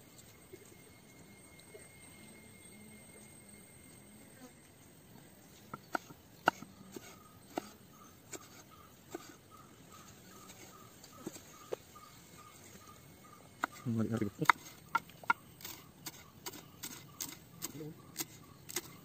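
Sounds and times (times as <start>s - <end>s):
faint rhythmic chirping: 0.0s - 19.0s.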